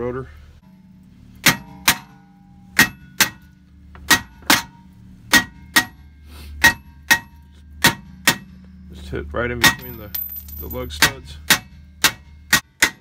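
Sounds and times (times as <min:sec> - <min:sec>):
hammer striking brake rotor: 0:01.4 - 0:08.8, 0:09.6 - 0:13.0.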